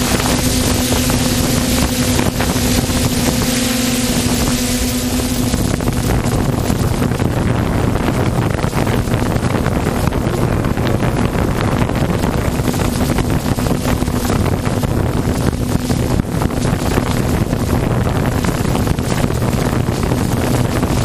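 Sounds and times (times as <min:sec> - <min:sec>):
watercraft engines droning: 0:00.0 - 0:21.0
wind buffeting microphone: 0:00.0 - 0:21.0.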